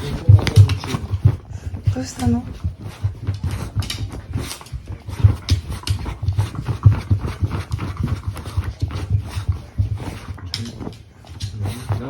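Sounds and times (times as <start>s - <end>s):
dog panting: 0.0s - 12.0s
dog scratching at bedding: 0.0s - 12.0s.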